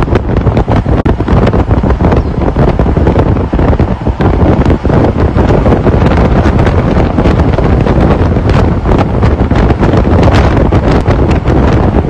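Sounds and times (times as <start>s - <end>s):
vehicle driving rumble: 0.0s - 12.0s
wind buffeting microphone: 0.0s - 12.0s.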